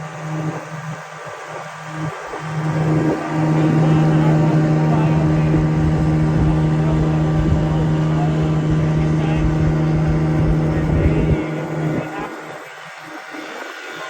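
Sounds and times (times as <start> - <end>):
boat motor running: 0.0 - 13.1.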